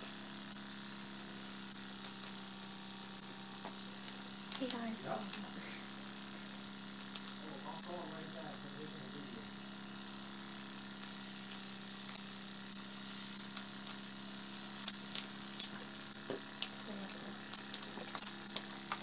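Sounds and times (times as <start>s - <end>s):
high steady hiss: 0.0s - 19.0s
model steam engine running: 0.0s - 19.0s.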